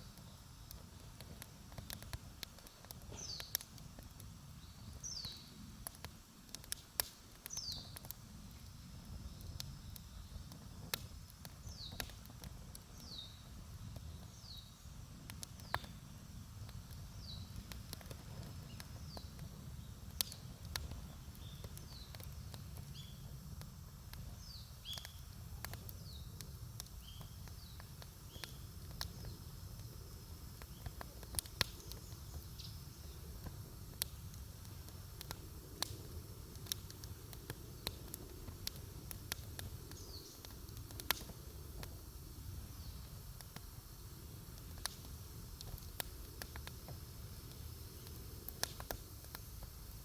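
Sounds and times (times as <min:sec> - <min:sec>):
campfire wood crackling: 0:00.0 - 0:50.0.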